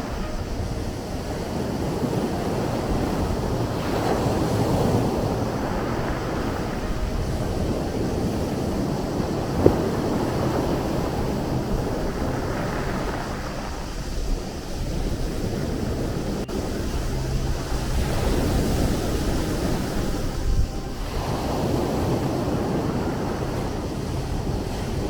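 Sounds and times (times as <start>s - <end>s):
sea waves washing in: 0.0s - 25.0s.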